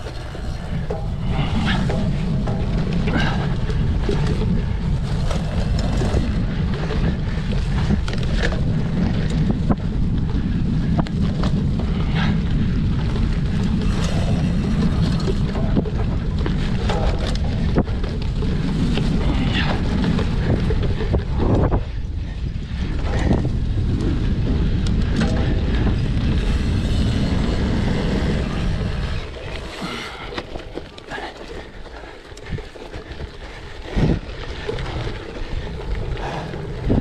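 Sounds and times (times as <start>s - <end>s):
bike clicks and rattles: 0.0s - 37.0s
wind buffeting microphone: 0.0s - 37.0s.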